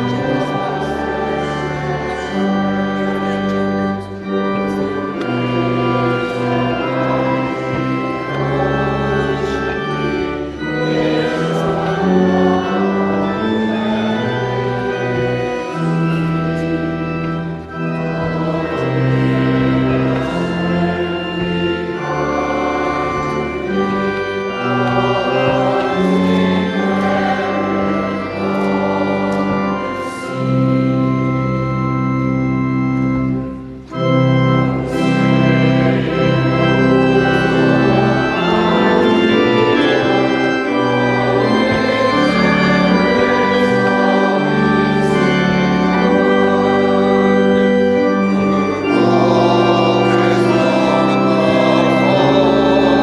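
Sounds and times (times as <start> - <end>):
church organ sustained chords: 0.0 - 53.0.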